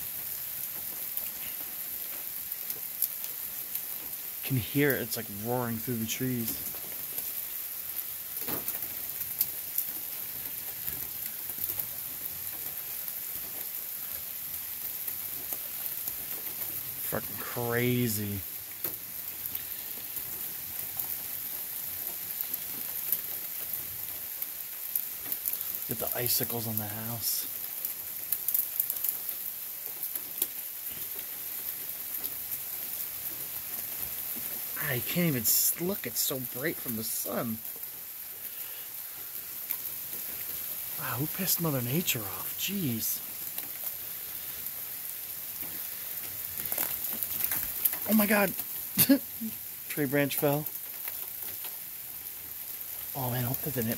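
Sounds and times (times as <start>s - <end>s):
freezing rain hissing through trees: 0.0s - 53.9s.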